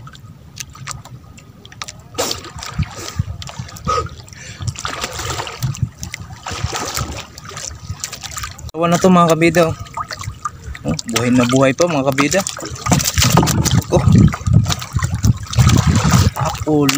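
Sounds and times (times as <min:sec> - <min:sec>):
sea water splashing and trickling: 0:00.0 - 0:16.9.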